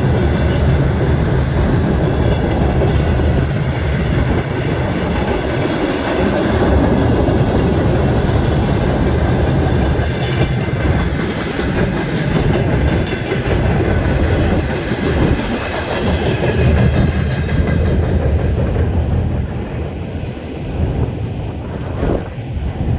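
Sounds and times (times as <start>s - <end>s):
wheels clacking over rail joints: 0.0s - 20.4s
freight train rumbling past: 0.0s - 22.9s.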